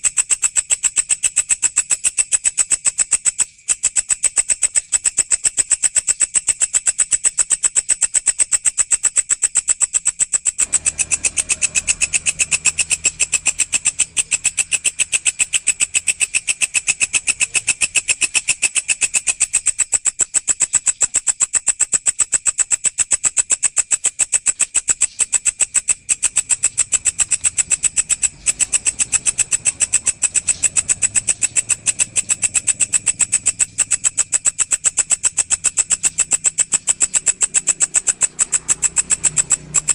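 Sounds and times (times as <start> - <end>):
grasshopper high-pitched pulsing call: 0.0 - 39.9.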